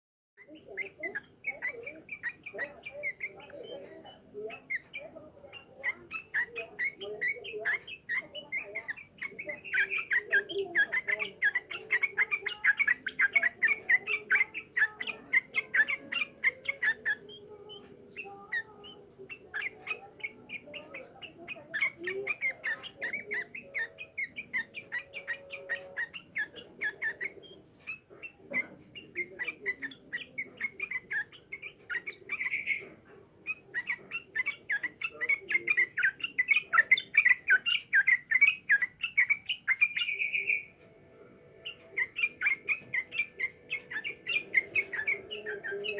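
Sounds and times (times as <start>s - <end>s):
songbird chattering chirps: 0.4s - 45.9s.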